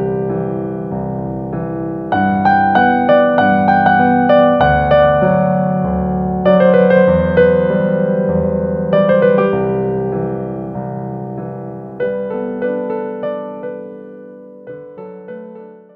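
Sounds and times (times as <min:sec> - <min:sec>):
soft piano music: 0:00.0 - 0:15.9.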